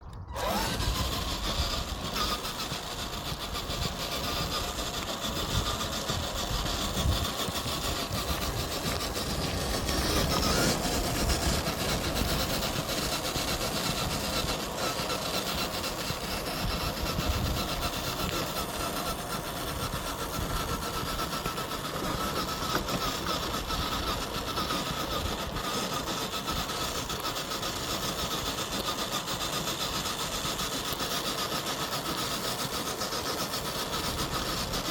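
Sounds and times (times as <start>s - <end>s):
electric motor and gearbox whine: 0.0s - 34.9s.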